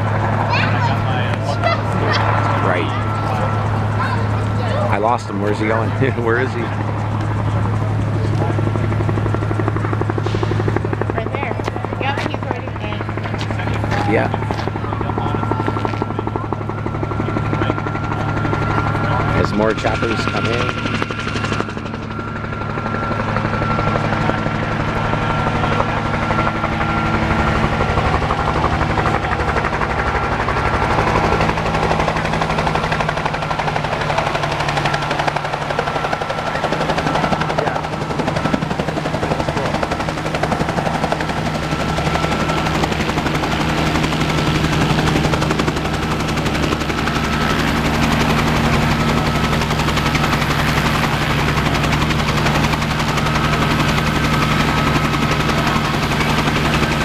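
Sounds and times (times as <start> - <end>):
helicopter rotor blades beating: 0.0 - 57.0
thin steady whine: 0.0 - 57.0.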